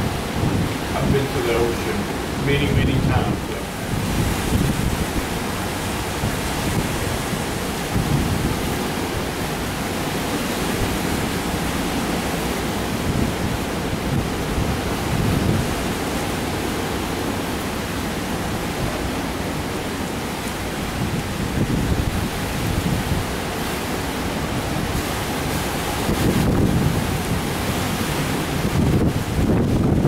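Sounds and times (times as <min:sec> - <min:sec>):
heavy surf breaking: 0:00.0 - 0:30.0
hurricane wind: 0:00.0 - 0:30.0.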